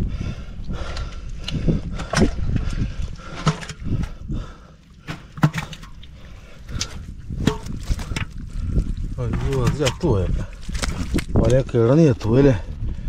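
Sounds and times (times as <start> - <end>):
water splashing and dripping: 0.6 - 11.7.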